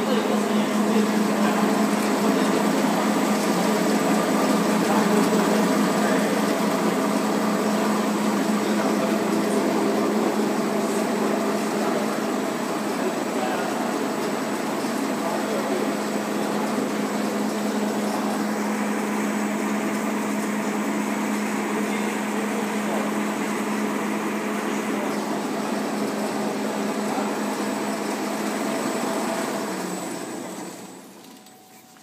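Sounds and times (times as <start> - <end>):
bag making machine running: 0.0 - 32.0.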